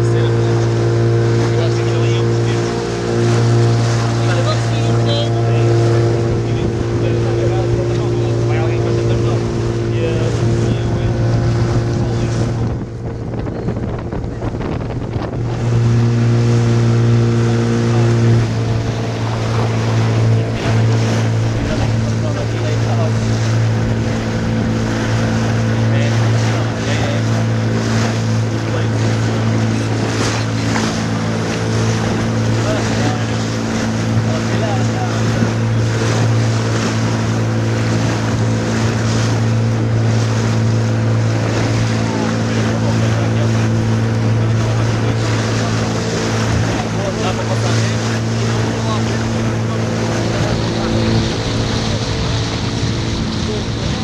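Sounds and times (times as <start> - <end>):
boat engine humming: 0.0 - 54.0
water noise: 0.0 - 54.0
wind on microphone: 2.5 - 54.0.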